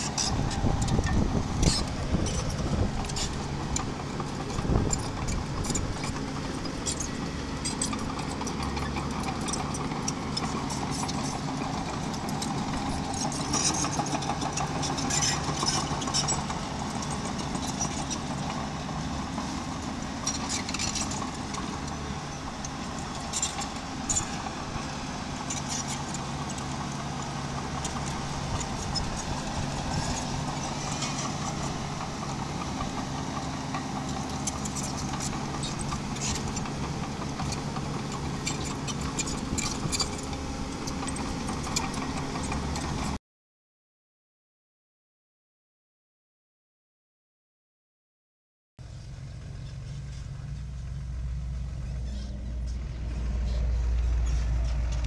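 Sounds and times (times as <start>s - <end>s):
diesel engine running: 0.0s - 43.2s, 48.8s - 55.0s.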